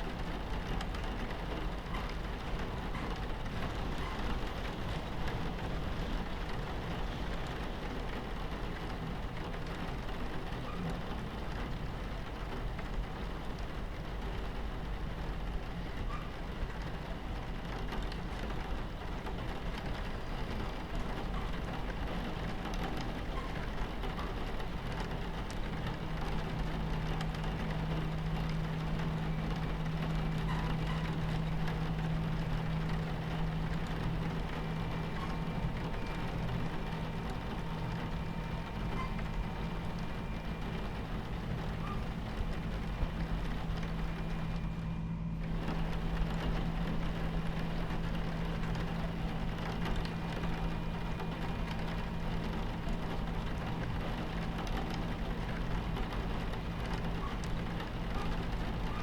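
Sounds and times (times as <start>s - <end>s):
low steady hum: 0.0s - 59.0s
rain on a window: 0.0s - 59.0s
train rumbling on tracks: 0.0s - 59.0s.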